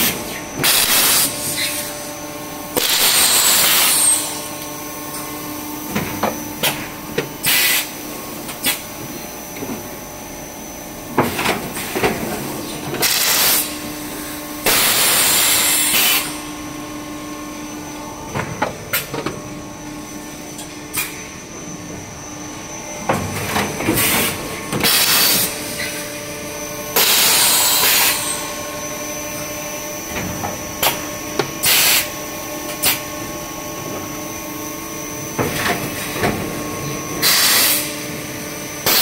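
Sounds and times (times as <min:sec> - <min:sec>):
machine humming: 0:00.3 - 0:39.0.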